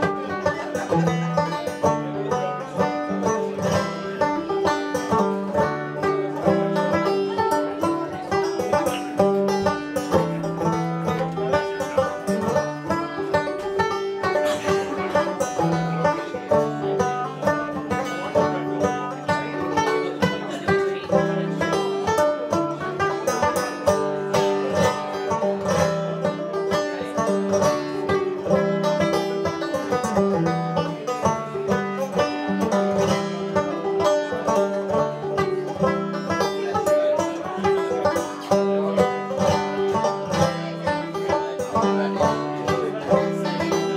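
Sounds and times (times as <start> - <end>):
banjo playing quick tunes: 0.0 - 43.9.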